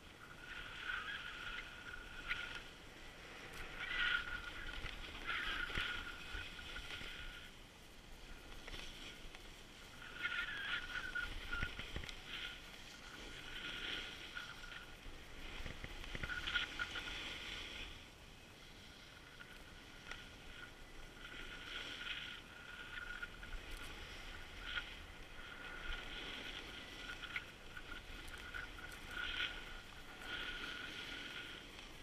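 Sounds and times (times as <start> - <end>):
low wind rumble on microphone: 0.0 - 32.0
skis carving on snow: 0.0 - 32.0.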